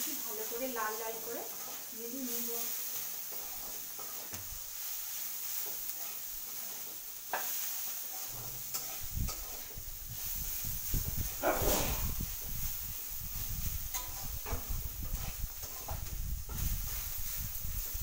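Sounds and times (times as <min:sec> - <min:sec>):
onion sizzling in oil: 0:00.0 - 0:18.0
spatula scraping a pan: 0:00.1 - 0:18.0.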